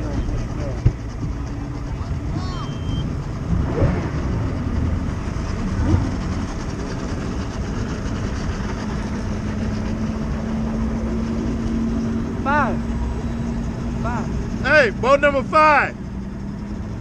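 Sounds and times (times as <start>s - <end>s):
outboard motors idling: 0.0s - 17.0s
steady engine hum: 0.0s - 17.0s.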